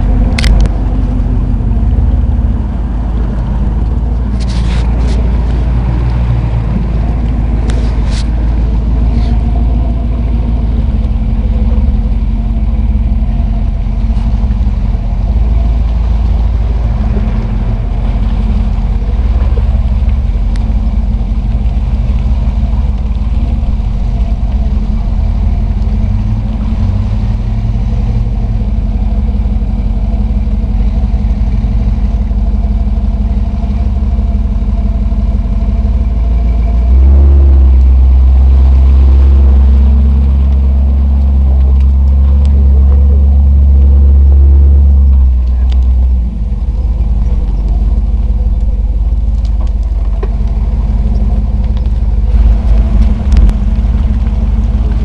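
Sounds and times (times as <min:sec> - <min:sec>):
tires splashing water: 0:00.0 - 0:55.0
vehicle engine under load: 0:00.0 - 0:55.0.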